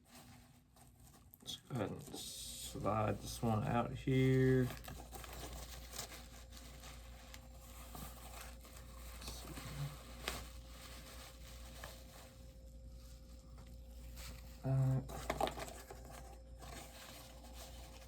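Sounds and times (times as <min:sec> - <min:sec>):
packaging rustling: 0:00.0 - 0:18.0.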